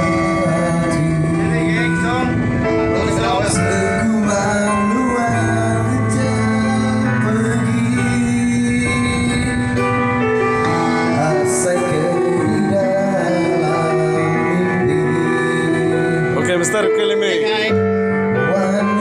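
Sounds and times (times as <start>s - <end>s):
instrumental band music: 0.0s - 19.0s.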